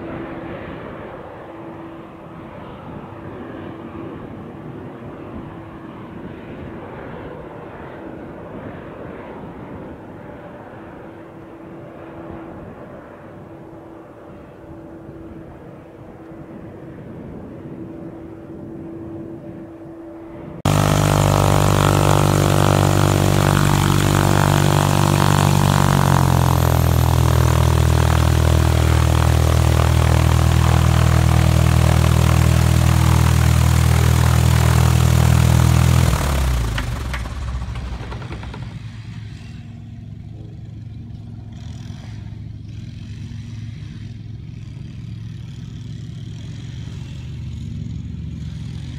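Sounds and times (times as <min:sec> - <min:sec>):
propeller plane engine running: 0:00.0 - 0:48.9
jet engines idling whine: 0:07.4 - 0:48.9.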